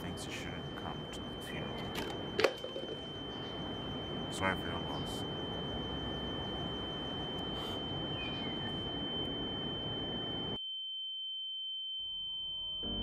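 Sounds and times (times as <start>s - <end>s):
high-pitched ringing tone: 0.0s - 13.0s.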